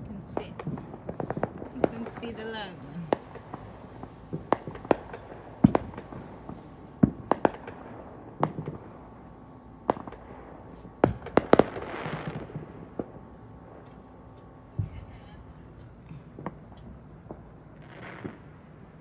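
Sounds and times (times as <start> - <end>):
fireworks bangs and pops: 0.2 - 19.0.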